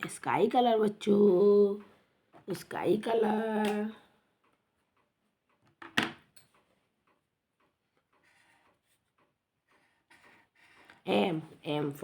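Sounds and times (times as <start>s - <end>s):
pens ticking and scratching: 0.0s - 11.4s.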